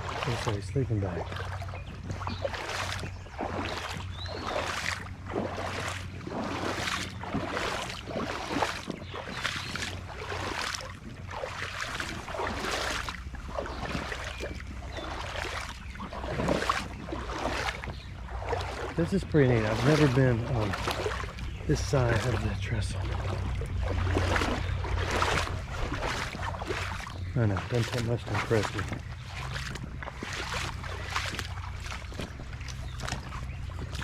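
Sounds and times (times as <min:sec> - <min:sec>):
boots sloshing through water: 0:00.0 - 0:34.0.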